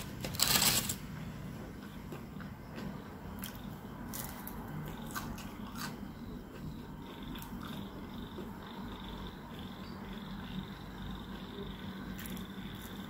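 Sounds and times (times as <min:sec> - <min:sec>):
crunchy fries being chewed: 0:00.0 - 0:13.0
steady low hum: 0:00.0 - 0:13.0.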